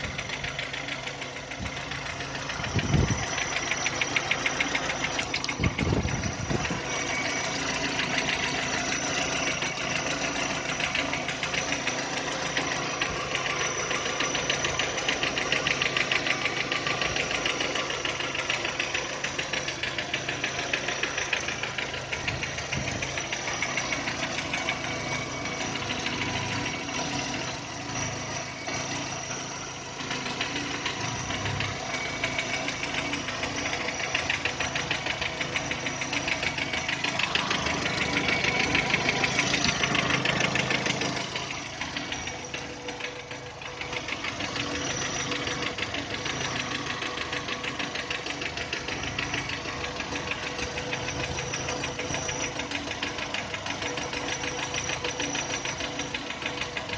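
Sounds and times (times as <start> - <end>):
fast knocking inside engine: 0.0 - 56.9
petrol engine idling: 0.0 - 56.9.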